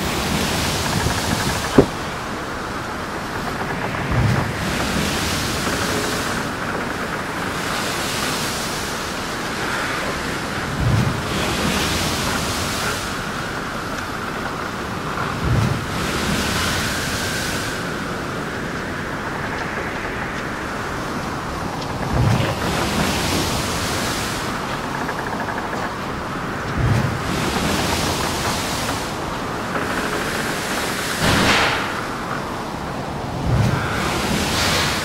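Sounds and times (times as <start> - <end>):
rushing surf-like noise: 0.0 - 35.0.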